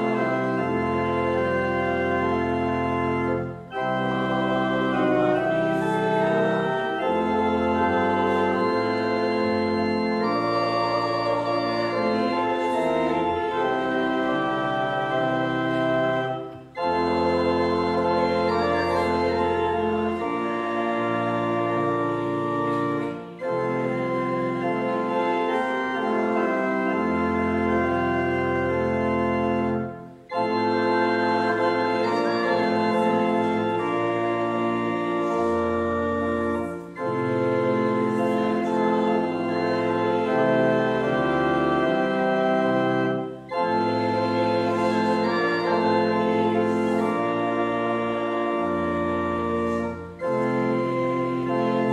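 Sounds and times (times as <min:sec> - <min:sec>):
church organ playing a hymn: 0:00.0 - 0:51.9.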